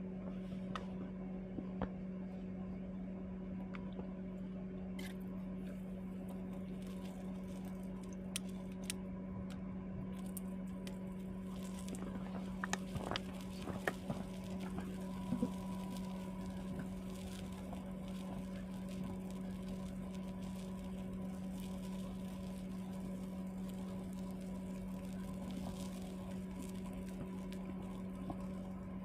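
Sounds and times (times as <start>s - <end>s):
small fan motor humming: 0.0s - 29.0s
light clicks and crackles: 5.0s - 29.0s.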